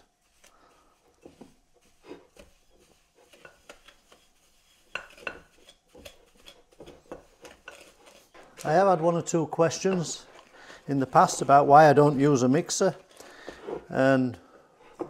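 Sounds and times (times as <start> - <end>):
wooden spoon scraping ceramic bowl: 0.0 - 14.1.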